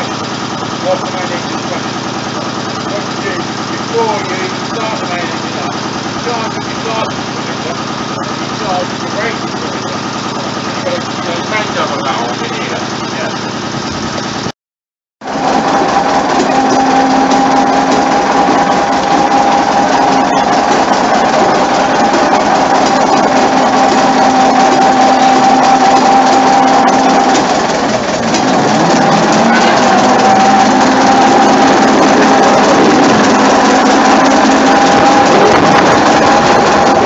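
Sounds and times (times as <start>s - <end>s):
diesel locomotive engine drone: 0.0s - 14.5s, 15.2s - 37.0s.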